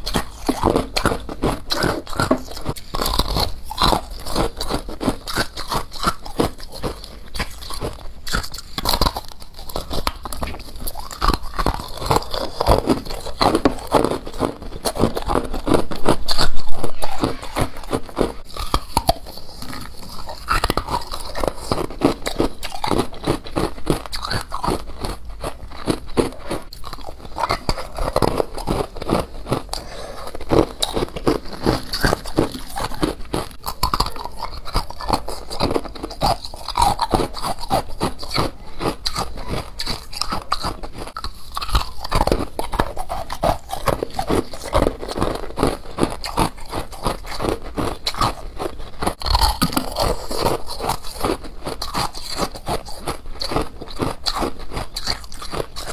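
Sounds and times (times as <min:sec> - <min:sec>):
crisp crunching while chewing: 0:00.0 - 0:55.9.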